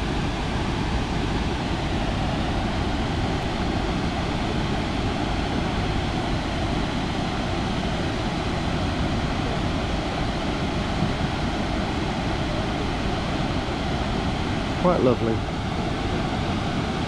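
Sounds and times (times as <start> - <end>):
waterfall roaring: 1.6 - 17.0.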